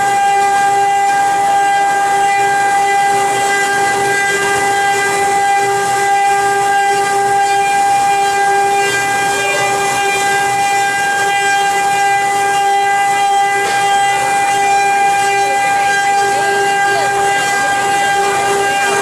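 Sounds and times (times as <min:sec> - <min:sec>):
router spindle whining: 0:00.0 - 0:19.0.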